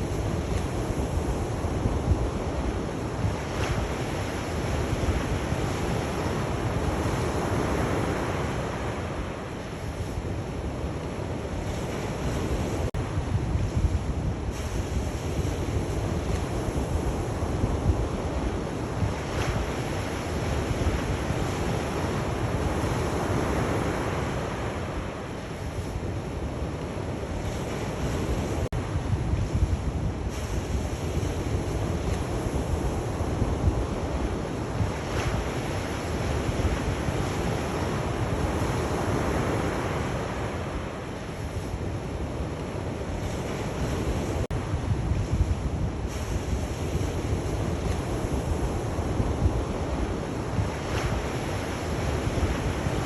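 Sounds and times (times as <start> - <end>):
sea waves washing on shore: 0.0 - 53.0
wind: 0.0 - 53.0.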